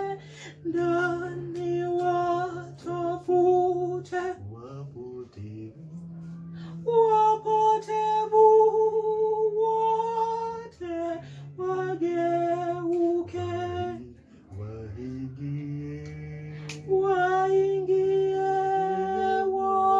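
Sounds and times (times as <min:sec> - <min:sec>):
voices singing a hymn: 0:00.0 - 0:19.9.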